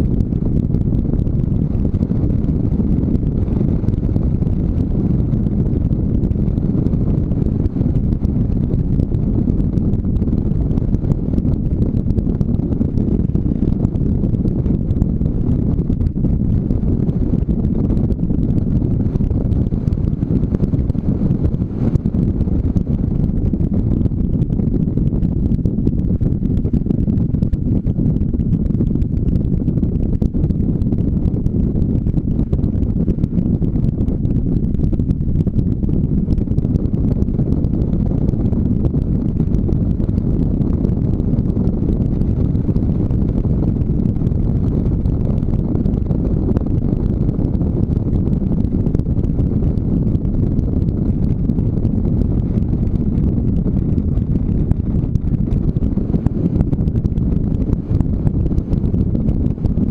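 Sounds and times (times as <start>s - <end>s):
wind buffeting on microphone: 0.0s - 59.9s.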